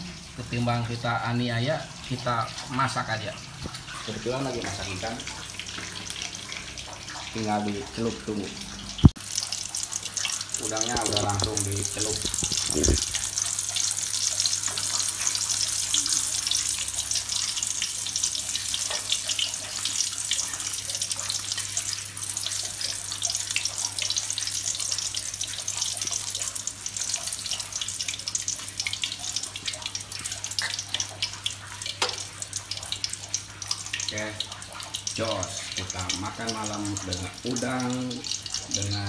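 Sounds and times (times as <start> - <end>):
shrimp deep-frying in oil: 0.0 - 39.0.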